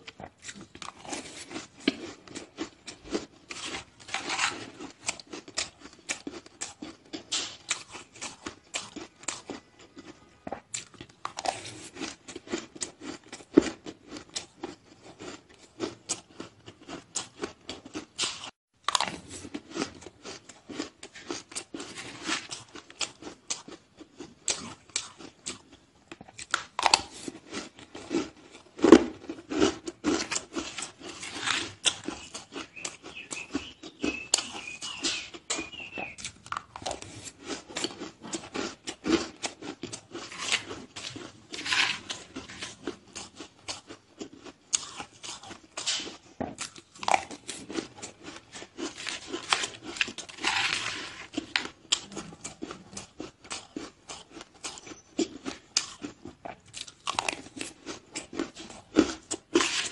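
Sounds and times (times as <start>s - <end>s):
chewing crunchy ice: 0.0s - 59.9s.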